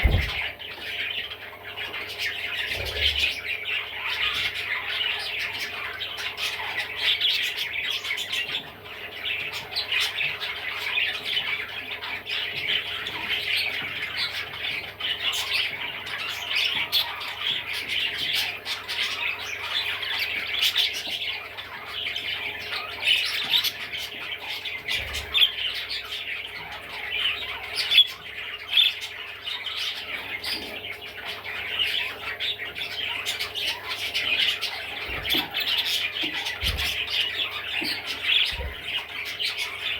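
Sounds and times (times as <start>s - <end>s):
budgerigar chattering and warbling: 0.0s - 39.9s.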